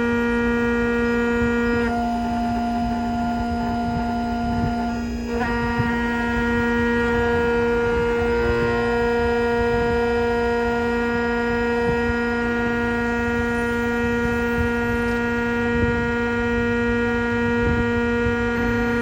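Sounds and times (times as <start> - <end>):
key-cutting machine motor humming: 0.0 - 19.0.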